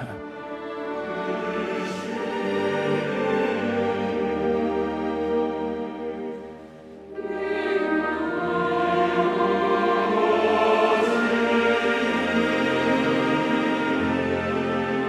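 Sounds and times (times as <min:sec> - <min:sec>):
choir and orchestra music: 0:00.0 - 0:15.0.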